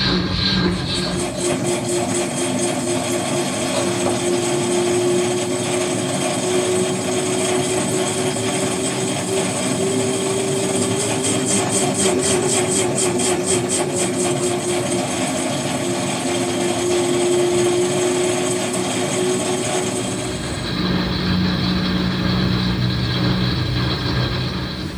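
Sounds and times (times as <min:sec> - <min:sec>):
washing machine spin motor whine: 0:00.0 - 0:24.9
rapid pulsing hiss: 0:04.8 - 0:24.9.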